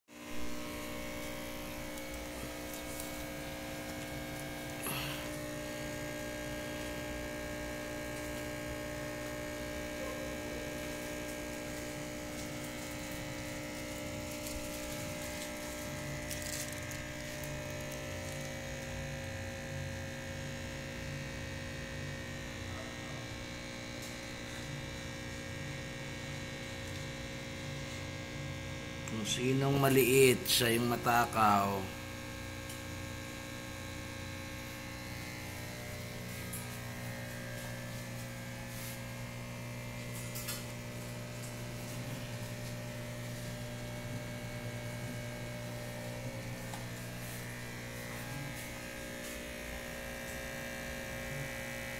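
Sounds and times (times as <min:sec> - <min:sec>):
aquarium pump electric hum: 0:00.1 - 0:51.9.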